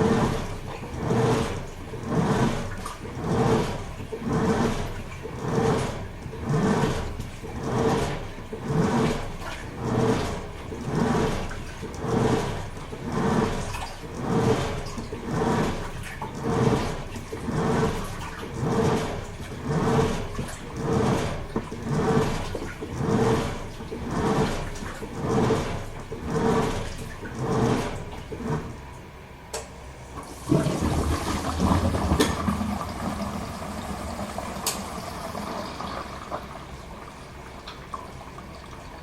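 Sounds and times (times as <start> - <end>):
washing machine agitating: 0.0 - 39.0.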